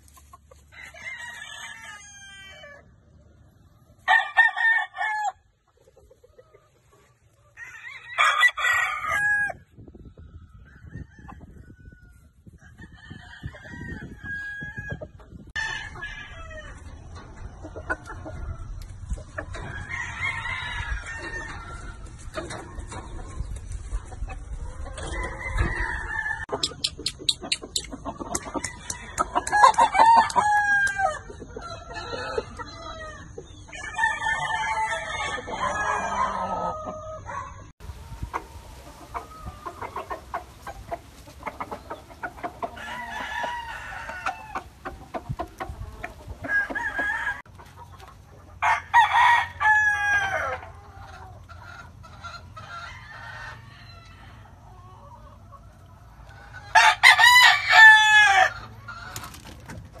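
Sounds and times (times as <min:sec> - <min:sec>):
chickens clucking: 0:00.0 - 1:00.0
roosters crowing: 0:00.5 - 0:03.0, 0:04.0 - 0:05.6, 0:07.4 - 0:09.8, 0:10.4 - 0:23.1, 0:24.6 - 0:26.6, 0:28.1 - 0:47.7, 0:48.4 - 0:55.6, 0:56.2 - 1:00.0.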